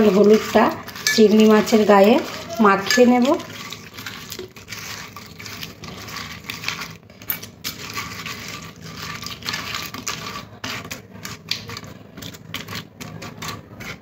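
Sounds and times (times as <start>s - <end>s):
wet squishing and rubbing: 0.0s - 14.0s.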